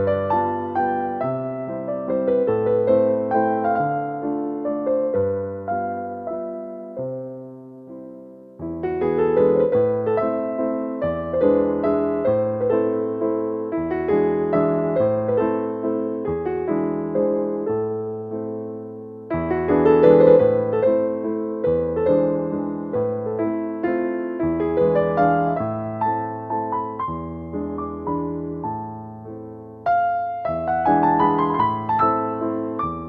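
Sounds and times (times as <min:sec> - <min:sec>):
calm piano music: 0:00.0 - 0:33.0.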